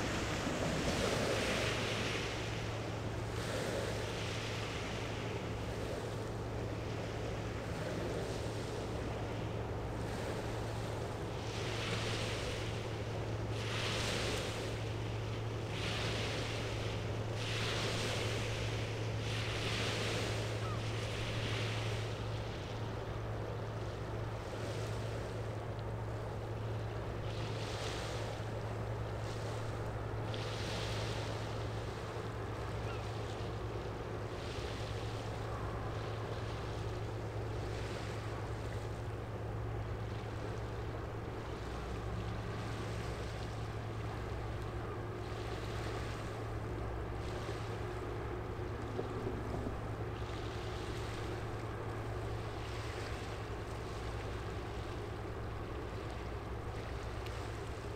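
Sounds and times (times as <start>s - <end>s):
ship engine drone: 0.0s - 57.9s
small waves washing on riverbank: 0.0s - 57.9s.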